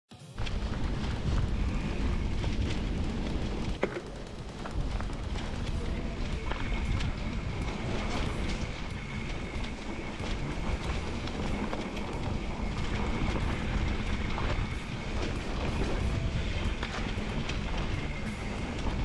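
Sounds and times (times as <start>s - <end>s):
bike rattling over stones: 0.4s - 19.0s
rumble of bike tyres and wind: 0.4s - 19.0s.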